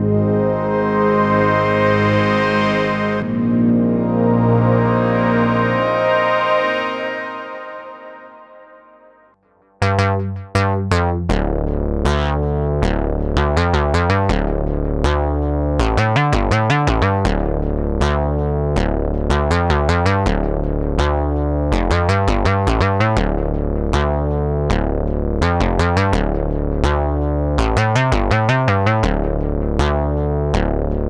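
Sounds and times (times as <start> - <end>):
held synth bass notes: 0.0 - 31.0
synthesizer plucked notes: 0.0 - 31.0.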